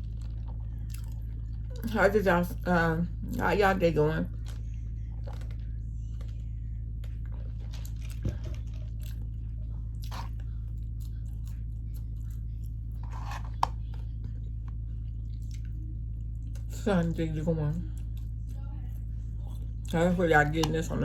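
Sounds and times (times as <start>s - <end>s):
person chewing food: 0.0s - 1.9s, 4.3s - 16.8s, 17.9s - 21.0s
steady low hum: 0.0s - 21.0s.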